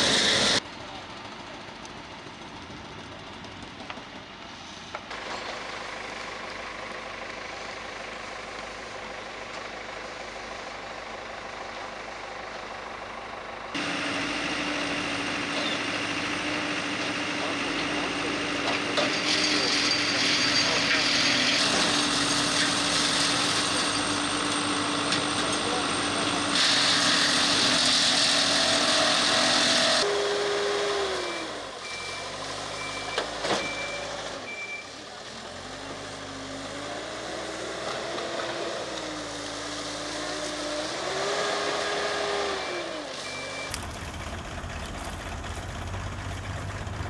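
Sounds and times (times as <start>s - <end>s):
heavy machinery engine running: 0.0s - 47.0s.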